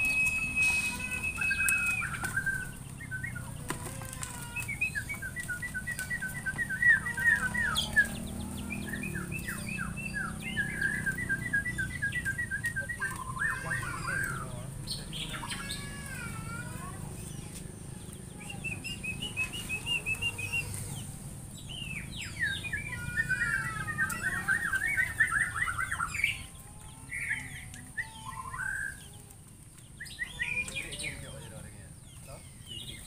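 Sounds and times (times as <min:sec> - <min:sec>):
songbirds chirping and warbling: 0:00.0 - 0:33.0.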